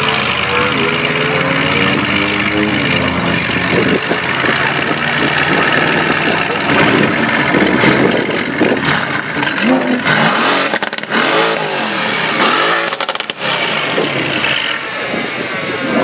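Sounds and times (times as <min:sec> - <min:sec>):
engine idling loudly and unevenly: 0:00.0 - 0:16.0.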